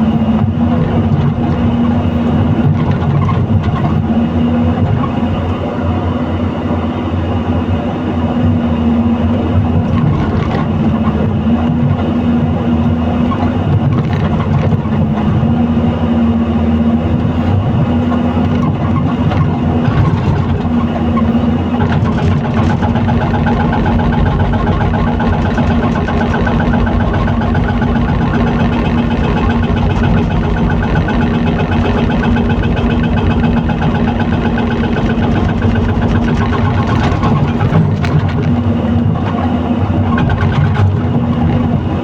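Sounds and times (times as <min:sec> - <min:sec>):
excavator diesel engine: 0:00.0 - 0:42.0.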